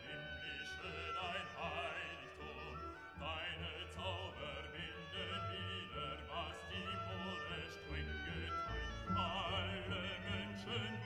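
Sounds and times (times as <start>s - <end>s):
operatic classical music: 0.0s - 11.0s.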